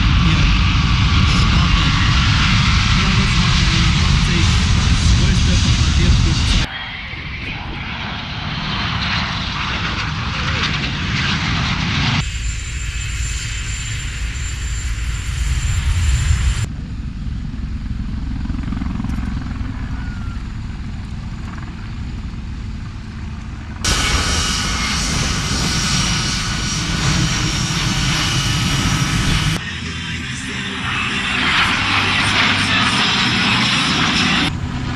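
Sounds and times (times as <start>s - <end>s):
aircraft engine high whine: 0.0s - 34.9s.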